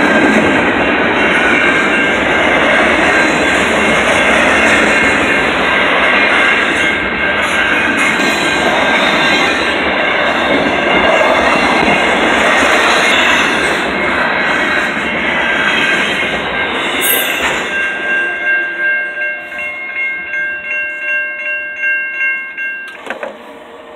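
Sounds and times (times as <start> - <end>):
freight train rolling past: 0.0 - 23.9
grade-crossing bell ringing: 0.6 - 23.4.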